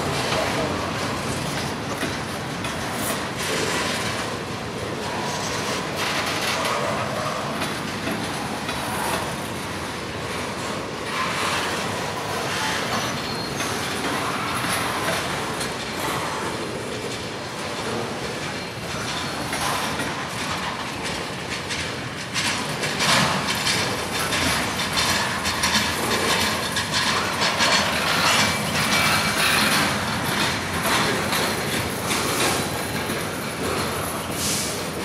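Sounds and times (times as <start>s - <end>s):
railroad car wheels clattering: 0.0s - 35.0s.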